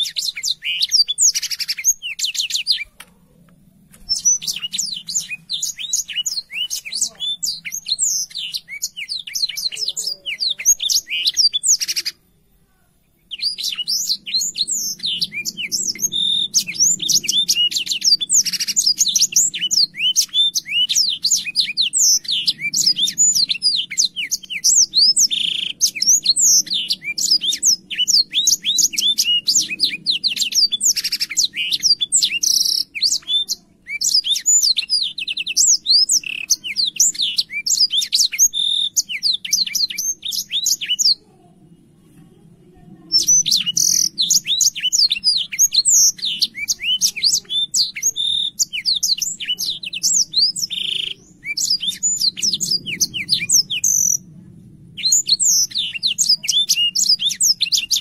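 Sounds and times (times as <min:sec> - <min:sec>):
canary singing chirps and trills: 0:00.0 - 0:58.0.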